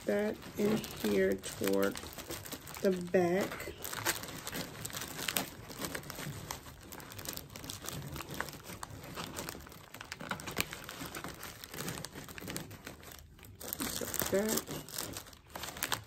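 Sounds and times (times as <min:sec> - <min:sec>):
cellophane packaging crinkling: 0:00.0 - 0:16.0.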